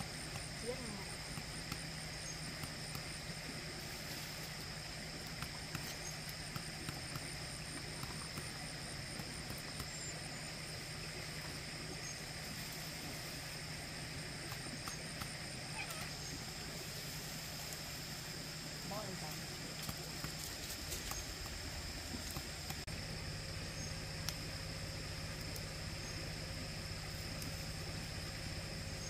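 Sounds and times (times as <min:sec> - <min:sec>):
low hum: 0:00.0 - 0:29.0
steady hiss: 0:00.0 - 0:29.0.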